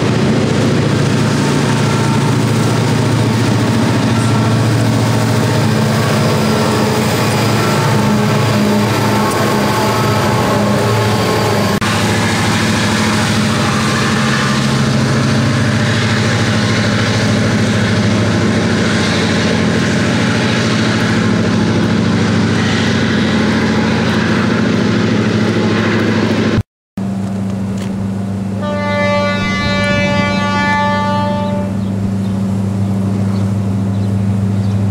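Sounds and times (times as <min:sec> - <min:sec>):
diesel locomotive engine rumble: 0:00.0 - 0:34.9
train wheel noise rushing: 0:00.0 - 0:34.9.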